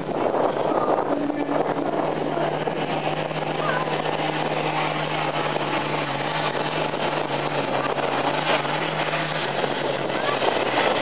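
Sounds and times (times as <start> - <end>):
diesel engine at full power: 0.0 - 11.0.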